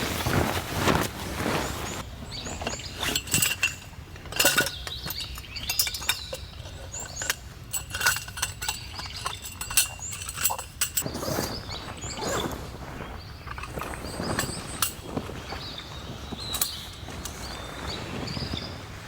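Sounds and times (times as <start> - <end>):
metallic clinks of camping gear: 0.2 - 18.7.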